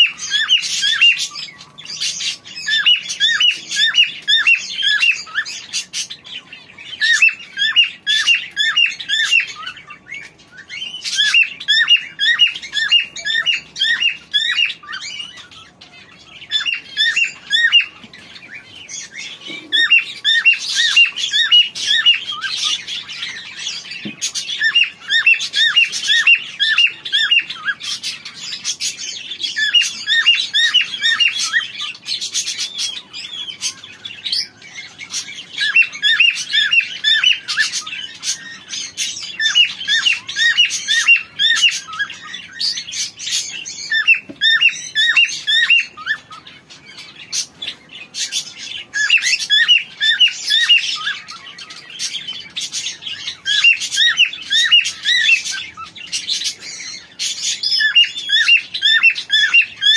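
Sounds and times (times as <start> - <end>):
cockatiels chirping: 0.0 - 59.9.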